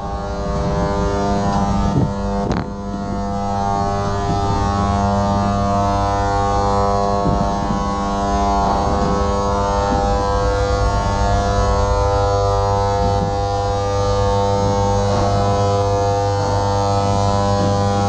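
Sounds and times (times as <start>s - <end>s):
droning hum with pitch glides: 0.0s - 18.0s.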